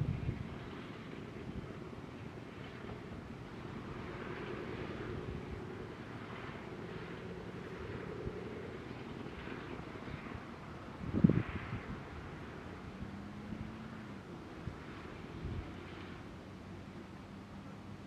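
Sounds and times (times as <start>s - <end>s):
distant engine droning: 0.0s - 18.0s
wind: 0.0s - 18.0s.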